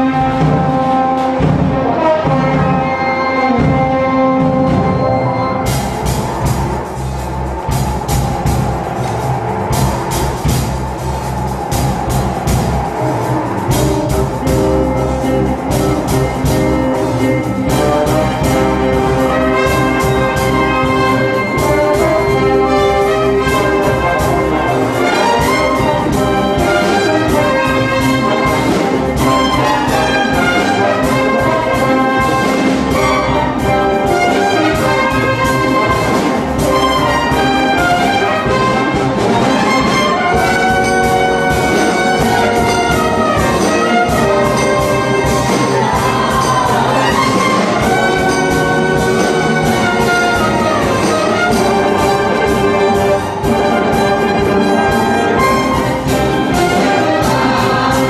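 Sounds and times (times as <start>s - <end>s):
orchestral music led by brass: 0.0s - 58.0s.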